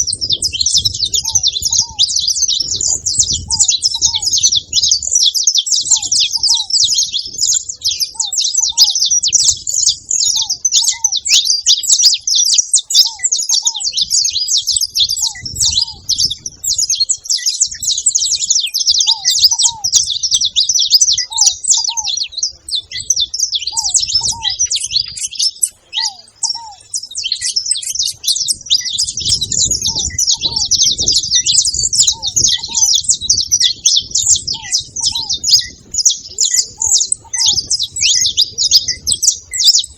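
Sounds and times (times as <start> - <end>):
finch chirping rapidly: 0.0 - 39.9.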